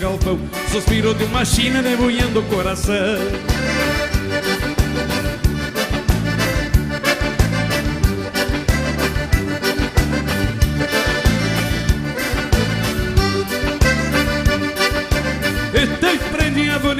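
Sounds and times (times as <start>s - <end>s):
accordion dance music: 0.0s - 16.9s.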